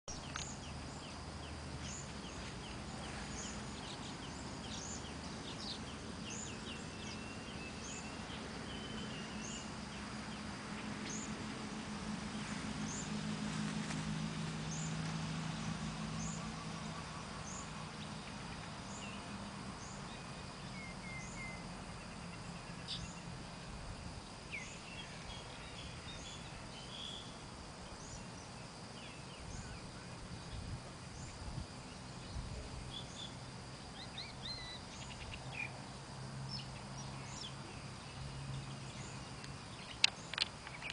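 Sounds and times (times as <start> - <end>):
small birds chirping: 0.1 - 11.6, 12.2 - 40.9
low hum: 0.1 - 40.9.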